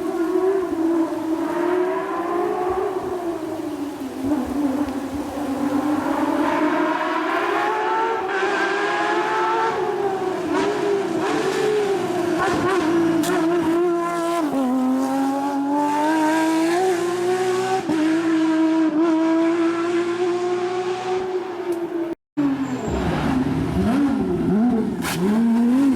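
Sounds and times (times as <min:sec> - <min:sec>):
rally car engine at high revs: 0:00.0 - 0:25.9.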